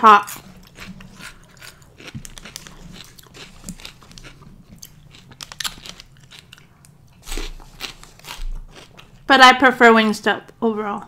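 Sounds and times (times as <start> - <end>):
crunchy chewing: 0.2 - 9.3.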